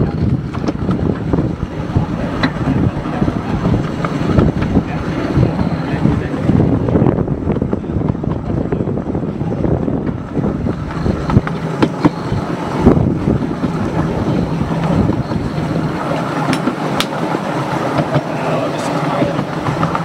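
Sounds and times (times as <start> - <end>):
miniature train rumbling: 0.0 - 20.0
wind buffeting microphone: 0.0 - 20.0.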